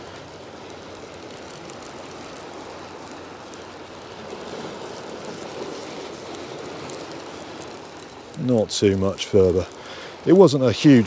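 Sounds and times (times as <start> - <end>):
small waves on pebble beach: 0.0 - 11.0
stones ticking: 0.0 - 11.0.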